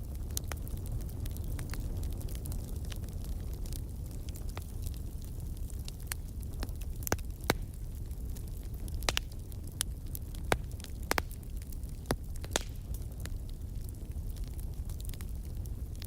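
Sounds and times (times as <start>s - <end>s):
flames rumbling: 0.0s - 16.0s
wood crackling and popping: 0.0s - 16.0s.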